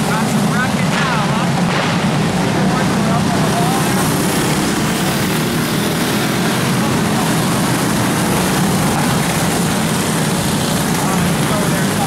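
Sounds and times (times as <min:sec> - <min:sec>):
go-kart engines droning: 0:00.0 - 0:12.0.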